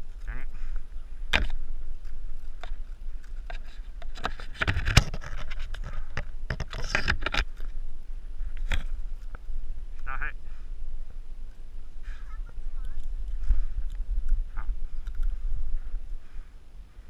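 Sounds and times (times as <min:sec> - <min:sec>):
twigs crackling: 0:00.0 - 0:16.6
leaves rustling: 0:00.0 - 0:17.0.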